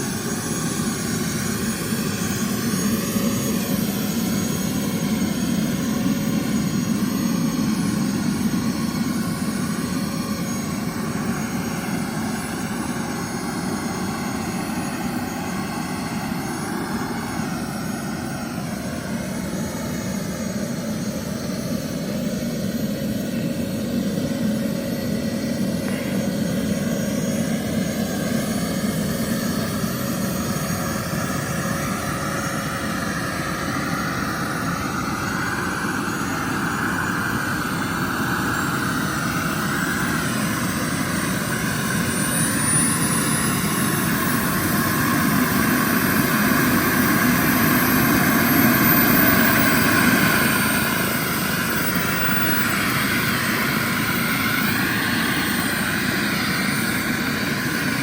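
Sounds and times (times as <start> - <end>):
high whine climbing in pitch: 0.0 - 58.0
model turbine steady rush: 0.0 - 58.0.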